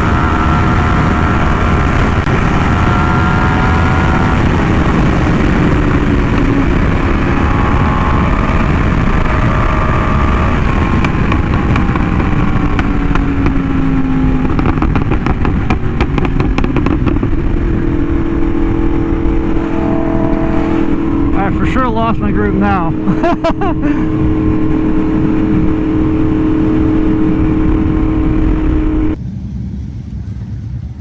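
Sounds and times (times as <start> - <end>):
heavy wind noise: 0.0 - 31.0
motorcycle engine: 0.0 - 31.0.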